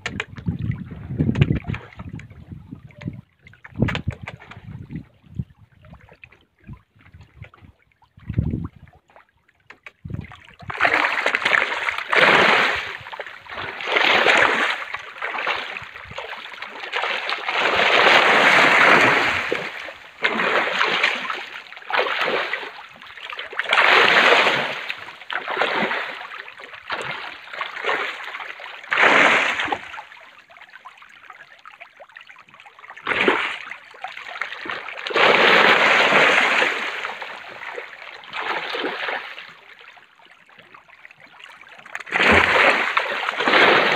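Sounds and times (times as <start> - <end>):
fish thrashing and splashing water: 6.0 - 43.9.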